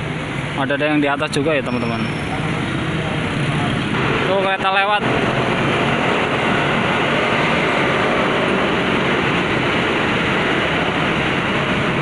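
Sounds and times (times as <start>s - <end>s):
train passing rumble: 0.0s - 12.0s.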